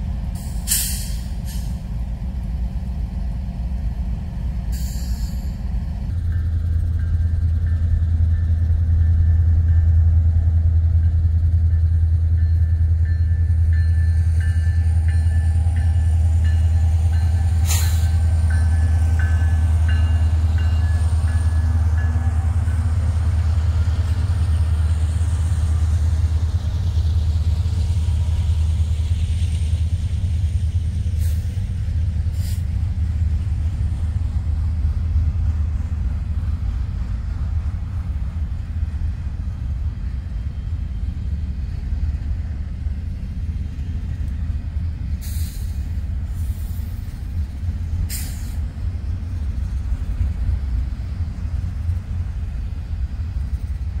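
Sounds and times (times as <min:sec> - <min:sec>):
freight train rumbling: 0:00.0 - 0:54.0.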